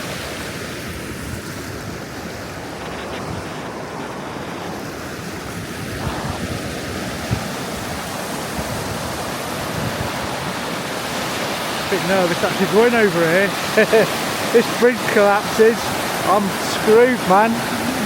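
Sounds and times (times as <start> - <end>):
rushing water: 0.0 - 18.0
wind buffeting microphone: 0.3 - 18.0.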